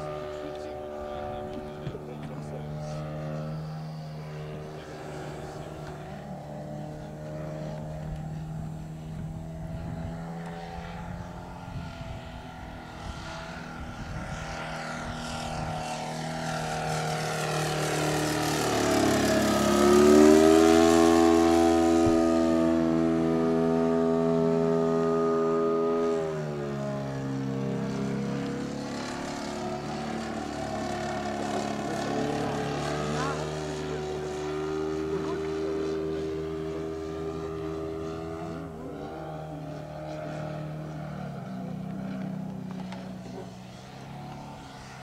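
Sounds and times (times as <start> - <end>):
model airplane engine droning: 0.0 - 45.0.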